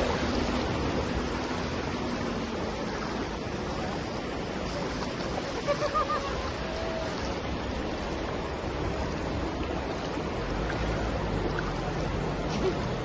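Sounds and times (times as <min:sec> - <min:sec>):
river water rushing over stones: 0:00.0 - 0:13.0.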